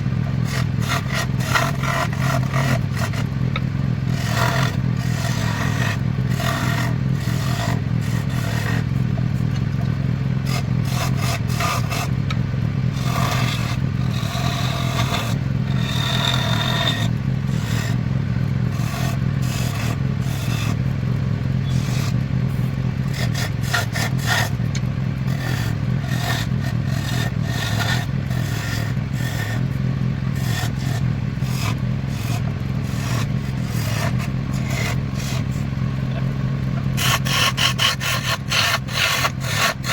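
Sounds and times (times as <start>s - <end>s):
lathe motor running: 0.0s - 39.9s
turning tool scraping wood: 0.0s - 39.9s.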